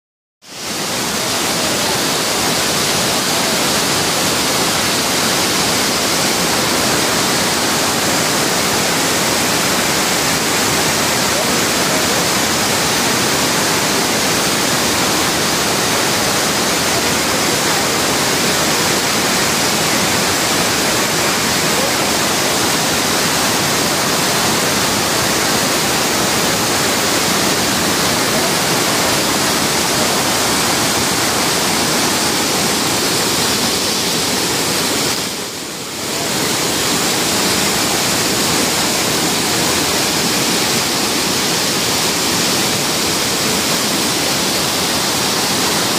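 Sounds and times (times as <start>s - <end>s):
waterfall rushing: 0.4s - 45.9s.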